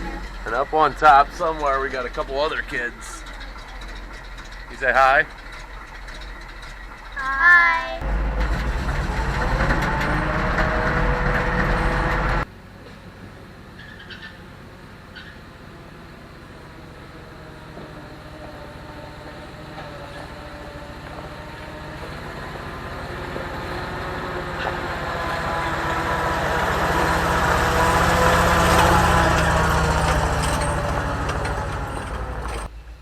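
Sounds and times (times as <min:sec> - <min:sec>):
truck engine running: 0:00.0 - 0:32.7.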